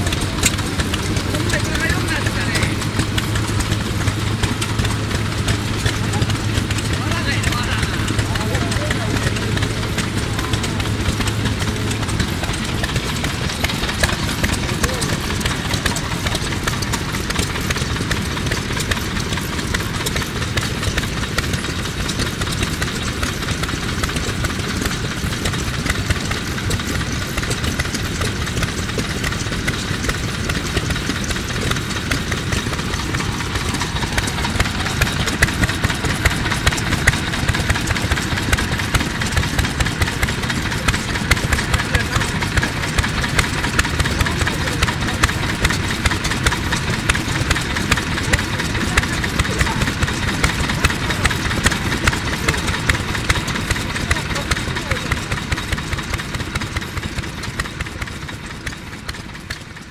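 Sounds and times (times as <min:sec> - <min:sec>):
stationary engine exhaust beat: 0:00.0 - 0:59.9.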